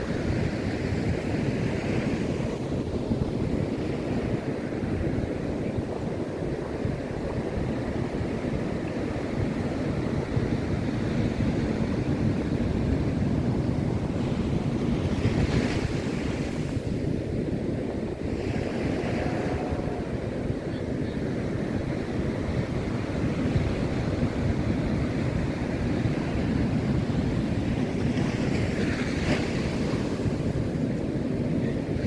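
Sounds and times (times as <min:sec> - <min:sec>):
ocean surf washing on beach: 0:00.0 - 0:32.0
wind buffeting microphone: 0:00.0 - 0:32.0.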